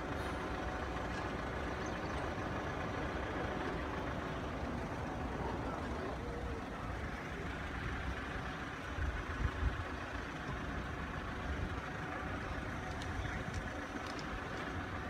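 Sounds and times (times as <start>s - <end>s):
vehicle engines idling: 0.0s - 15.0s.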